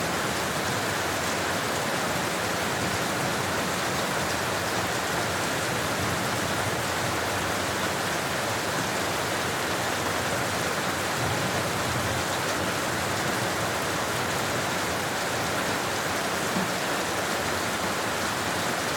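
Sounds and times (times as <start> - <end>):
steady rain on street: 0.0 - 18.9.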